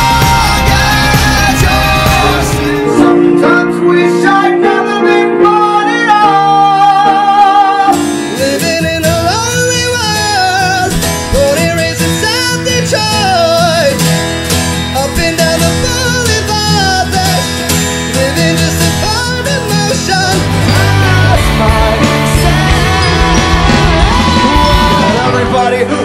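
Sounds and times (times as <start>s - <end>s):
strummed acoustic guitar: 0.0s - 3.2s, 7.9s - 26.0s
man singing high: 0.0s - 14.0s, 15.0s - 26.0s.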